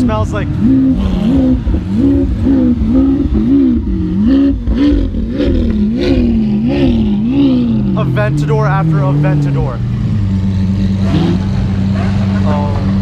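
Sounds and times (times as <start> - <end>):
car engine revving: 0.0 - 13.0
engines droning nearby: 0.0 - 13.0.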